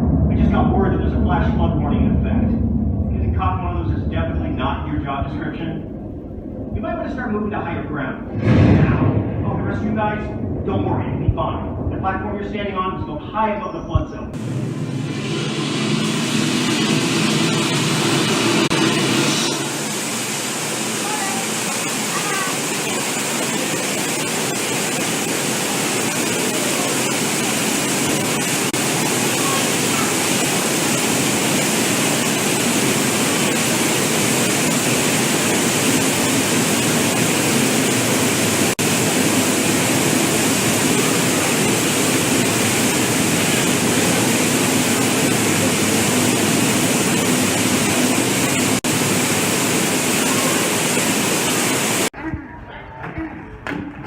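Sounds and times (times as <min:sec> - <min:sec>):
torrential water rushing: 0:00.0 - 0:13.7, 0:14.3 - 0:52.2.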